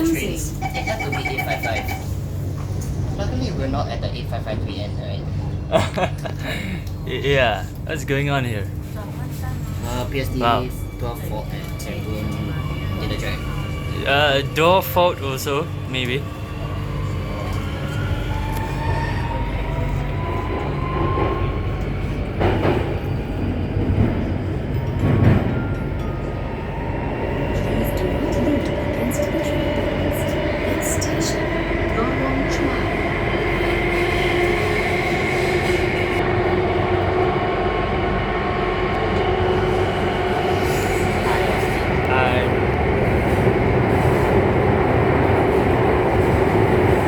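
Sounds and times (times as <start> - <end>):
metro train rumble and whine: 0.0 - 47.0.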